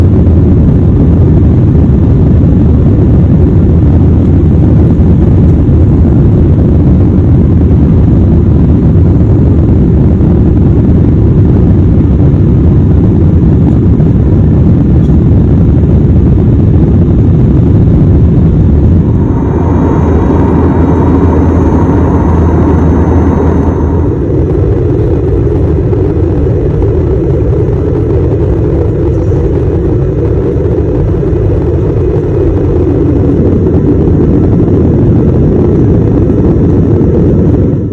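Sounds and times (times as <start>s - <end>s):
jet engine rumble in cabin: 0.0s - 37.9s.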